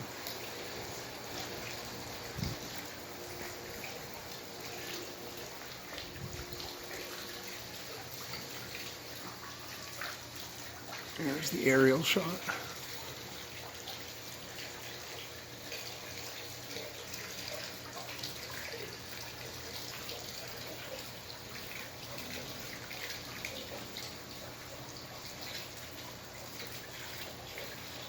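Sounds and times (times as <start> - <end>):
water splashing trickle: 0.0 - 28.0.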